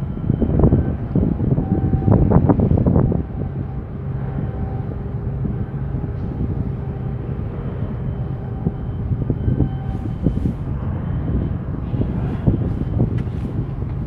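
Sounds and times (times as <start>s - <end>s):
faint machinery hum: 0.0s - 14.0s
low ship engine drone: 0.0s - 14.0s.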